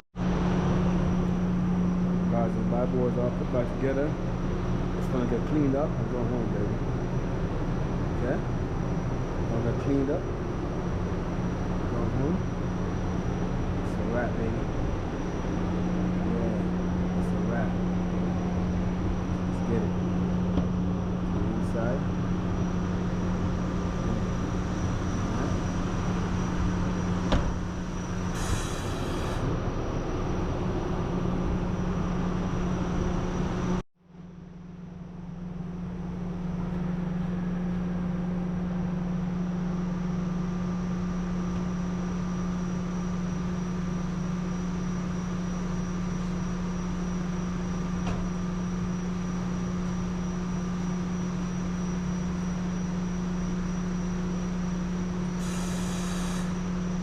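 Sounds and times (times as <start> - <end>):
low mechanical hum: 0.2 - 57.0.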